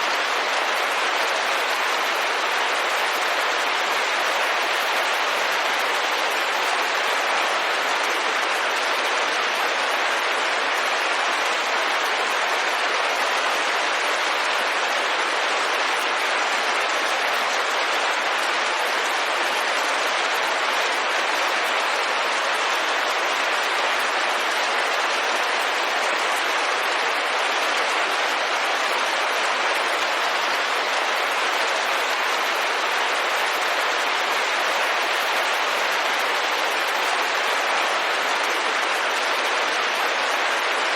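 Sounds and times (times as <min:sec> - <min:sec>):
rain pattering on a window: 0:00.0 - 0:40.9.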